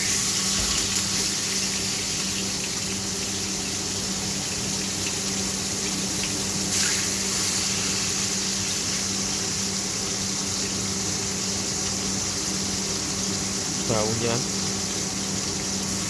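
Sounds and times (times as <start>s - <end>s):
steak sizzling in frying pan: 0.0s - 16.0s.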